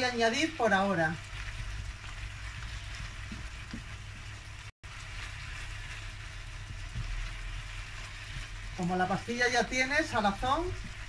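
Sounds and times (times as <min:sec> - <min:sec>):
meat sizzling in a frying pan: 0:00.0 - 0:11.0
spatula stirring: 0:00.7 - 0:11.0.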